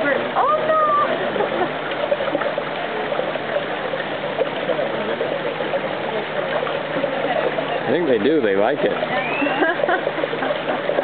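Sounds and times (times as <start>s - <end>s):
water gurgling in whirlpool: 0.0s - 11.0s.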